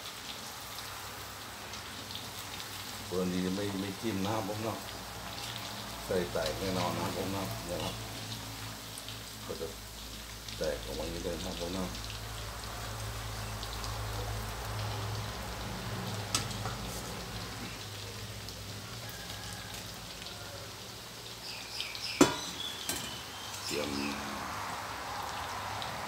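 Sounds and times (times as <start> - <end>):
sausages sizzling in hot oil: 0.0 - 26.0.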